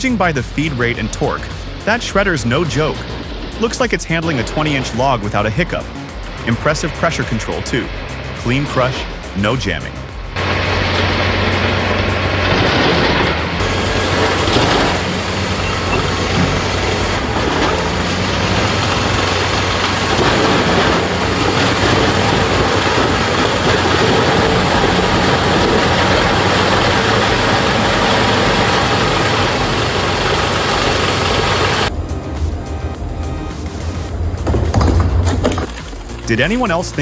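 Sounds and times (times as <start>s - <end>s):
industrial shredder running: 0.0s - 36.8s.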